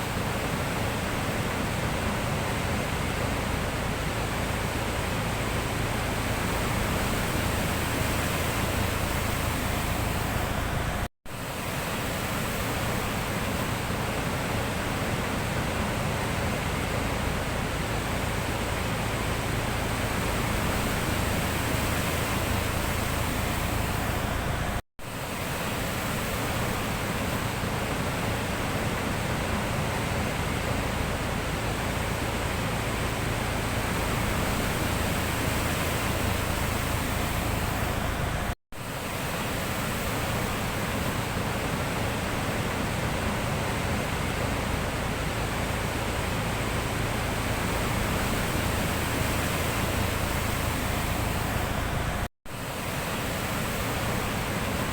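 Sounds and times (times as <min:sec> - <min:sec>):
sea surf rushing: 0:00.0 - 0:54.9.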